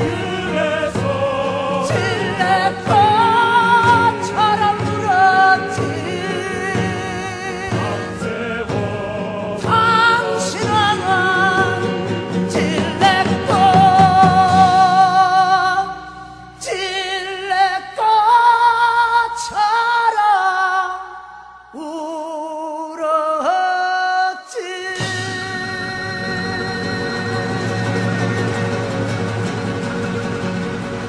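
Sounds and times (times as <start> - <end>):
man singing with heavy vibrato: 0.0 - 29.8
acoustic guitar: 0.0 - 31.0.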